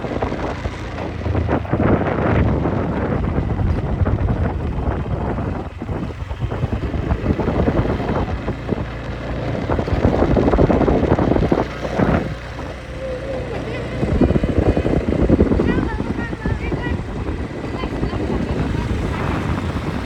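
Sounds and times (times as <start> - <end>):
motorcycle engine and road noise: 0.0 - 20.0
wind buffeting microphone: 0.0 - 20.0.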